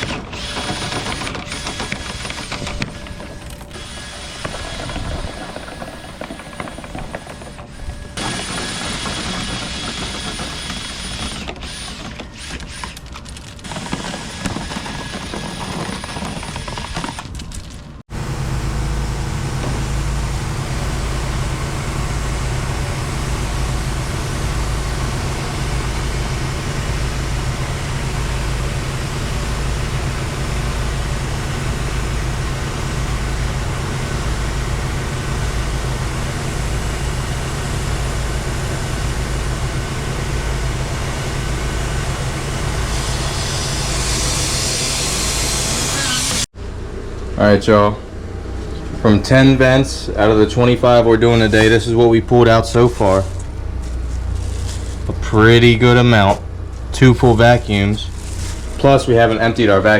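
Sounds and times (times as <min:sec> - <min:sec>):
low mechanical drone: 0:00.0 - 0:59.9
machinery whirring: 0:00.0 - 0:59.9.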